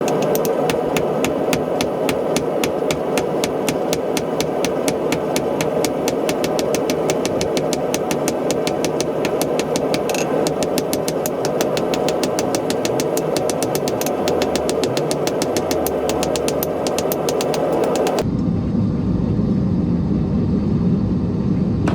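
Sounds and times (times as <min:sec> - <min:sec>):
fast even ticking: 0:00.0 - 0:18.2.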